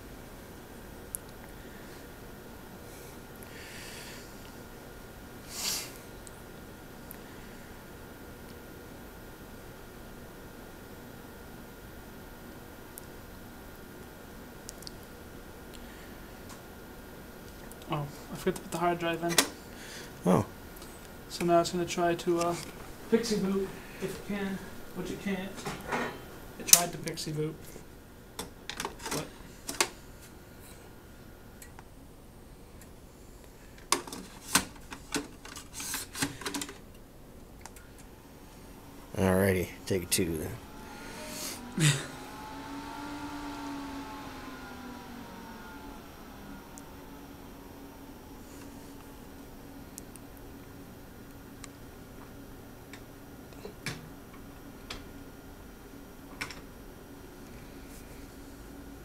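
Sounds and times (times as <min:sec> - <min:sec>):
computer humming: 0:00.0 - 0:59.0.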